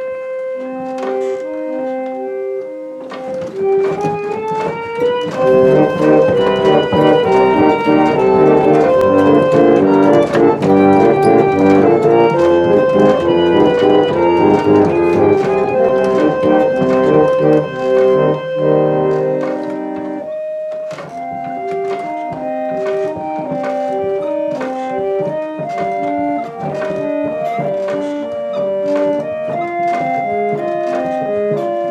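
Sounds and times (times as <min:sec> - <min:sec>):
reed organ playing chords: 0:00.0 - 0:31.9.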